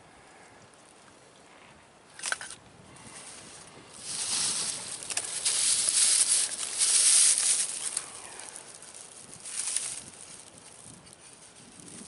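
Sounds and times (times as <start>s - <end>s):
dry grass rustling: 0.1s - 12.0s.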